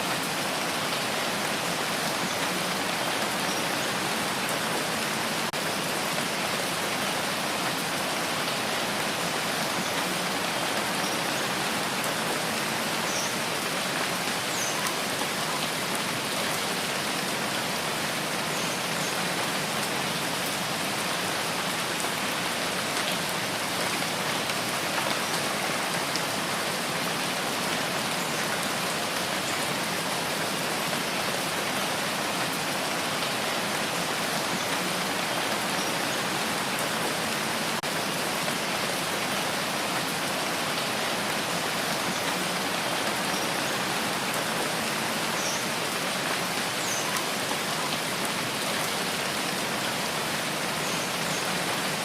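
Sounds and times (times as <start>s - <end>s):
rain pattering: 0.1s - 52.0s.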